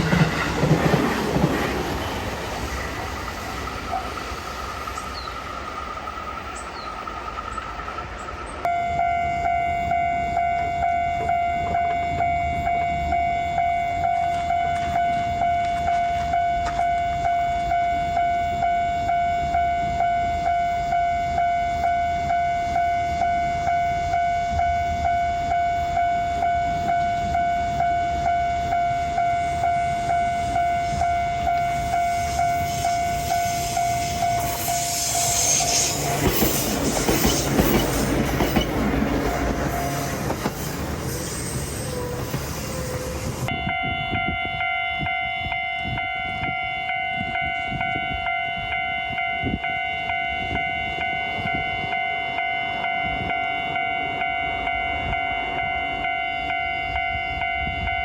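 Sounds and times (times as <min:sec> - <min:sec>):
railroad crossing bell ringing: 0:00.0 - 0:58.0
train noise with thin whine: 0:00.0 - 0:58.0.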